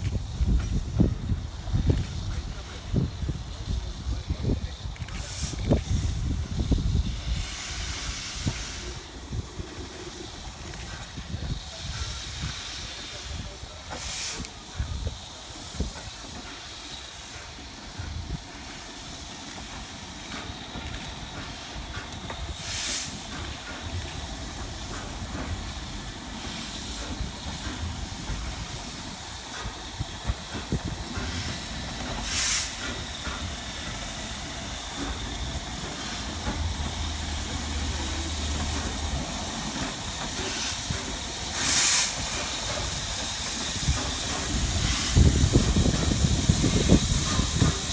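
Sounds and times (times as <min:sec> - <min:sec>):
steam blasts: 0:00.0 - 0:47.9
steam locomotive hissing: 0:00.0 - 0:47.9.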